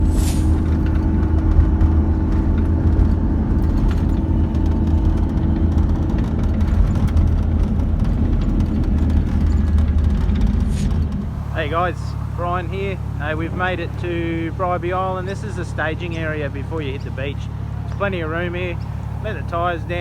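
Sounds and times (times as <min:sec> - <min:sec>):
vehicle engine low rumble: 0:00.0 - 0:20.0.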